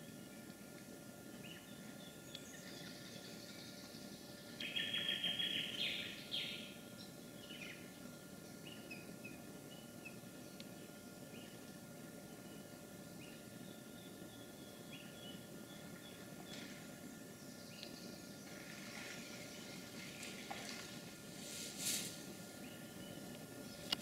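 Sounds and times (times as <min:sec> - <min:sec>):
birds chirping: 0:01.2 - 0:21.3, 0:22.2 - 0:24.0.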